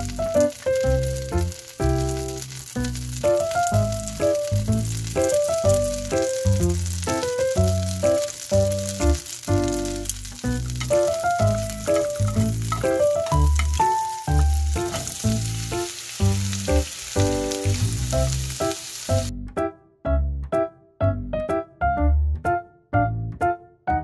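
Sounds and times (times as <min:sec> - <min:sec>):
butter and onion sizzling: 0:00.0 - 0:19.3
light background music: 0:00.0 - 0:24.0.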